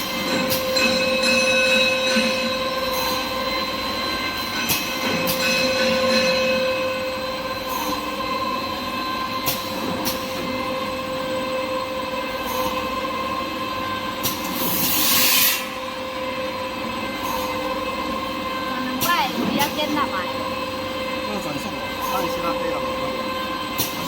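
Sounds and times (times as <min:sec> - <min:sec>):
machine whining: 0:00.0 - 0:24.0.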